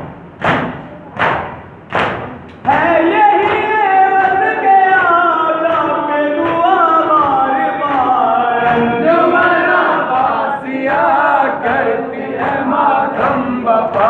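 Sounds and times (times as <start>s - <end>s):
men chanting a lament: 2.6s - 14.0s.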